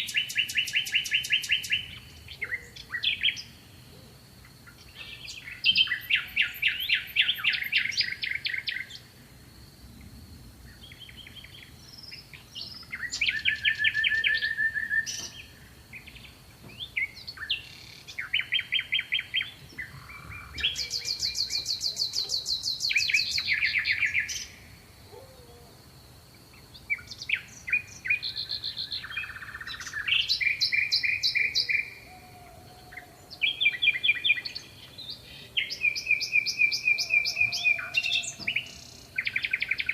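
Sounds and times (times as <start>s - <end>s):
songbird trilling: 0.0s - 3.6s, 4.7s - 9.0s, 10.8s - 25.5s, 26.9s - 39.9s.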